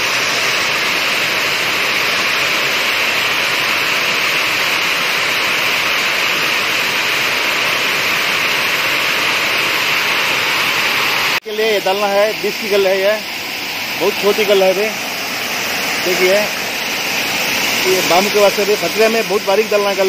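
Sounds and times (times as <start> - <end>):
water cascading down a weir: 0.0 - 20.0.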